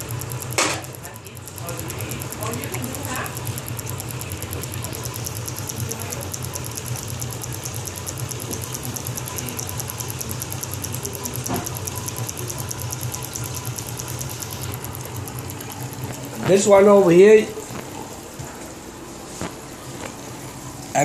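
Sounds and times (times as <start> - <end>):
motor fast even clicking: 0.0 - 17.0.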